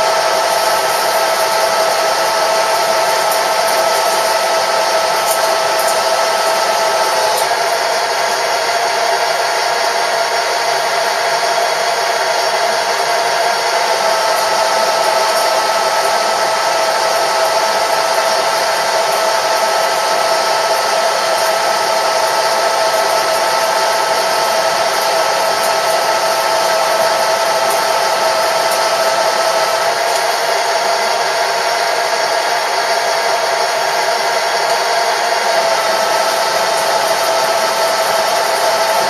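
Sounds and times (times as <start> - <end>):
machine tool whirring: 0.0 - 39.0.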